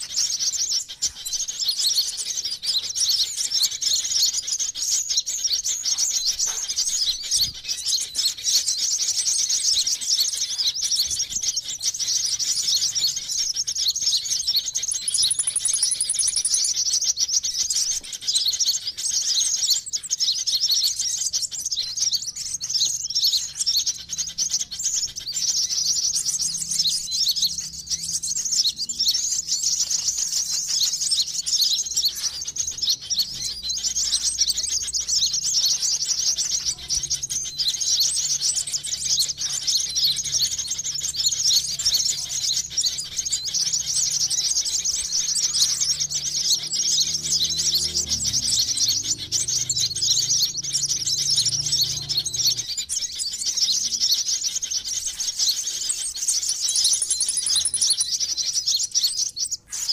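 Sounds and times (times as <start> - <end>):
sunbirds chirping and twittering: 0.0 - 59.9.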